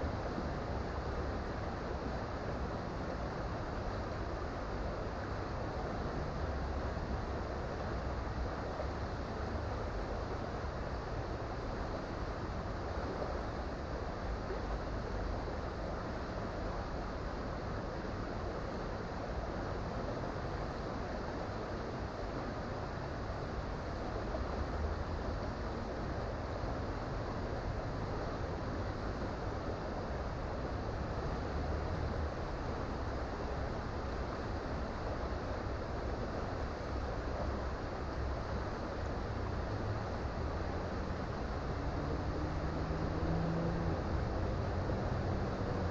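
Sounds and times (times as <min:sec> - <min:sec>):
creek water flowing: 0:00.0 - 0:45.9.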